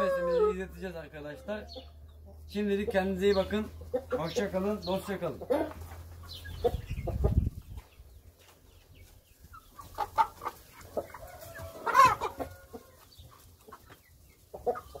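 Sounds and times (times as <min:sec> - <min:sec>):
chicken calls: 0:00.0 - 0:15.0
chickens clucking: 0:00.0 - 0:15.0.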